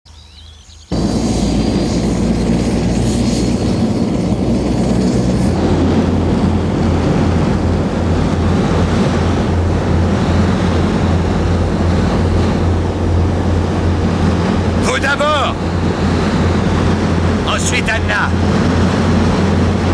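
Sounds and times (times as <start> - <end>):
propeller airplane engines droning: 0.8 - 19.9
thin high whine: 0.9 - 19.9.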